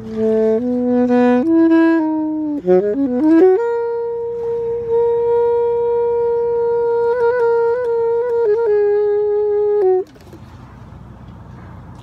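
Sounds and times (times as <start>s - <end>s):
alto saxophone solo: 0.0s - 10.6s.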